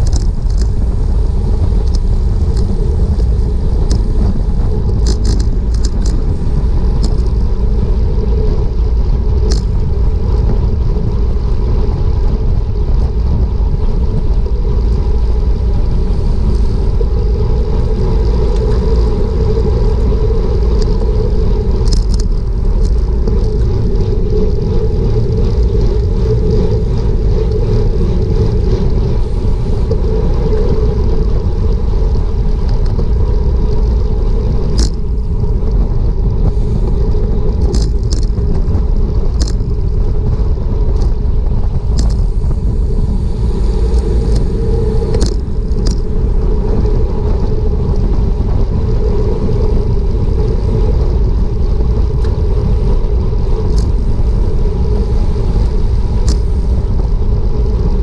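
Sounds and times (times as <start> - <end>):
wind rumble on camera: 0.0 - 58.0.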